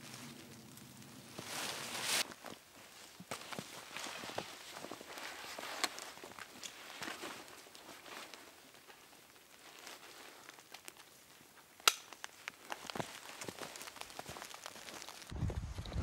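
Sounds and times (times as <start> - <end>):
footsteps crunching in snow: 0.0 - 11.3, 12.1 - 16.0.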